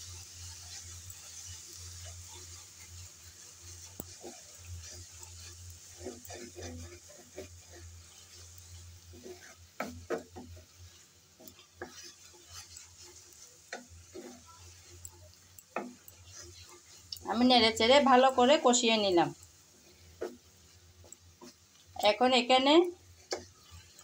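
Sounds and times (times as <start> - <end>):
hot oil sizzling: 0.0 - 24.0
wooden spatula scraping metal pan: 0.0 - 24.0.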